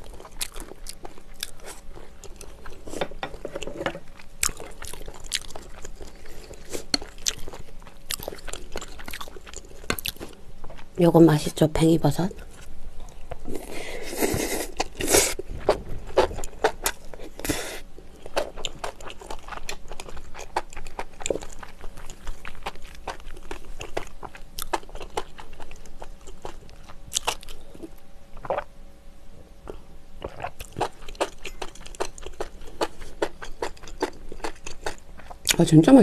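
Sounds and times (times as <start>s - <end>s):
person chewing food: 0.0s - 10.9s, 12.4s - 28.7s, 29.6s - 35.6s.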